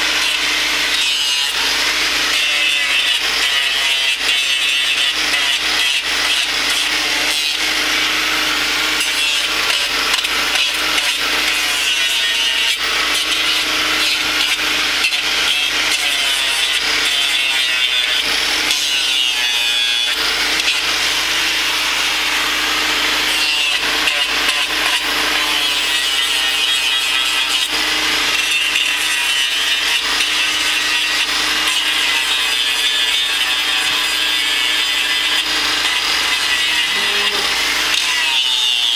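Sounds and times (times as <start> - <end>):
power grinder grinding hoof: 0.0 - 38.9.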